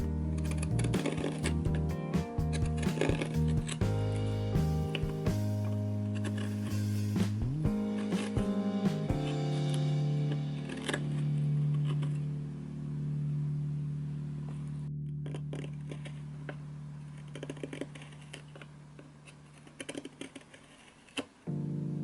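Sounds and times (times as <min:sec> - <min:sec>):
low held music tone: 0:00.0 - 0:19.8.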